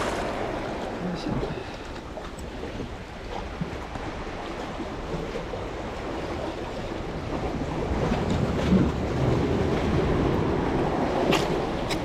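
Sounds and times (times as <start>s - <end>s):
waves washing in: 0.0s - 12.0s
wind buffeting microphone: 0.0s - 12.0s.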